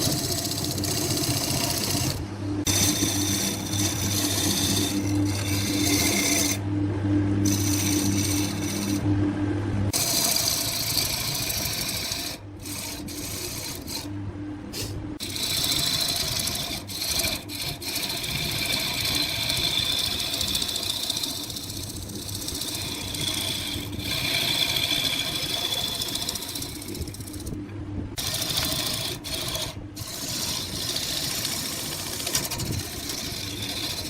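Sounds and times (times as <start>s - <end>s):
turning tool scraping wood: 0.0s - 6.6s, 7.4s - 9.1s, 9.9s - 14.1s, 14.8s - 27.6s, 28.2s - 34.0s
wood lathe motor whirring: 0.0s - 6.6s, 7.4s - 9.1s, 9.9s - 14.1s, 14.8s - 27.6s, 28.2s - 34.0s.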